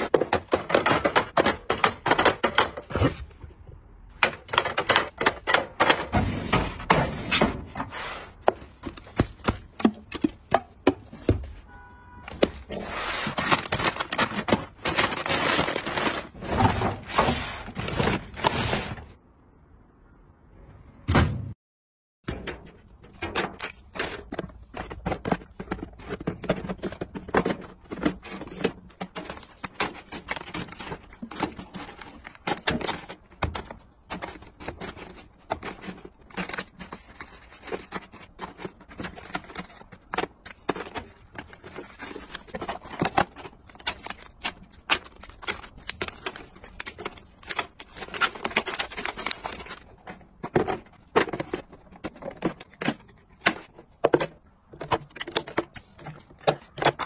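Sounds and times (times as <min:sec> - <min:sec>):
boxes and packets set into metal cart: 0:00.0 - 0:19.2, 0:22.3 - 0:57.0.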